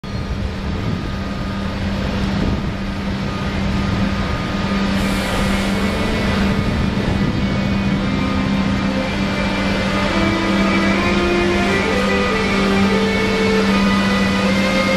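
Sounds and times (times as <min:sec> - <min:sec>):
electric locomotive hum and whine: 0:00.0 - 0:14.9.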